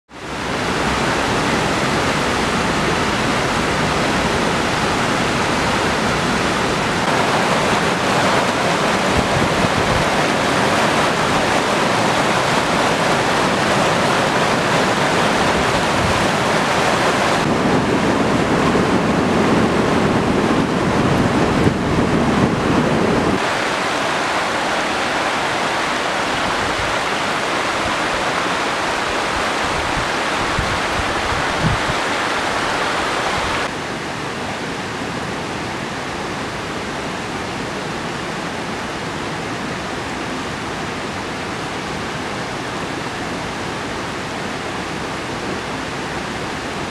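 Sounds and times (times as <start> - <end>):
water rushing over rapids: 0.1 - 46.9.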